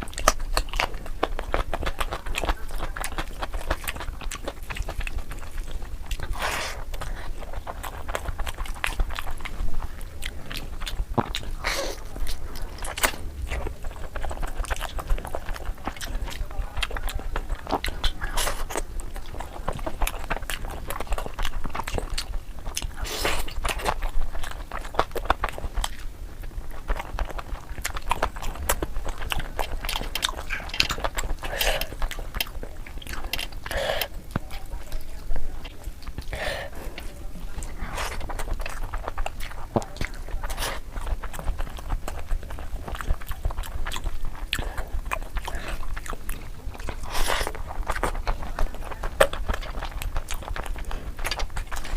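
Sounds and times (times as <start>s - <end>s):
chewing and biting chicken: 0.0s - 51.9s.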